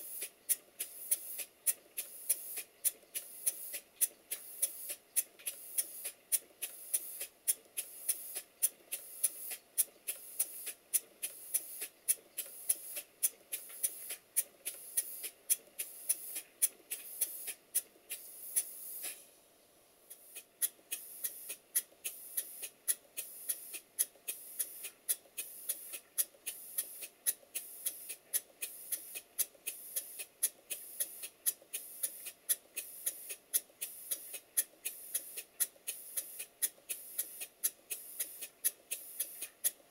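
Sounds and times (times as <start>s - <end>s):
hissing exhaust puffs: 0.0s - 19.4s, 20.1s - 39.9s
faint mechanical running noise: 0.0s - 39.9s.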